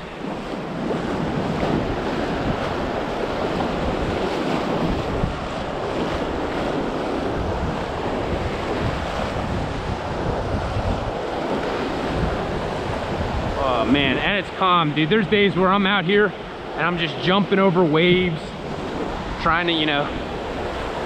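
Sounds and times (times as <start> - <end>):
ocean surf washing in: 0.0 - 21.0
wind buffeting microphone: 0.0 - 21.0.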